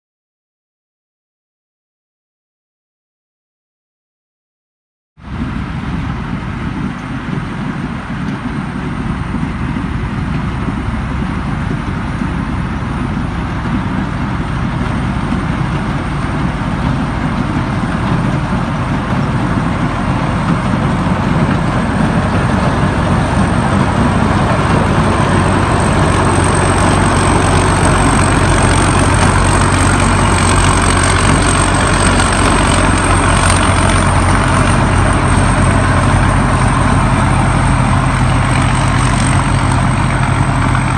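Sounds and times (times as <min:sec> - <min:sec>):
combine harvester engine running: 0:05.2 - 0:40.9.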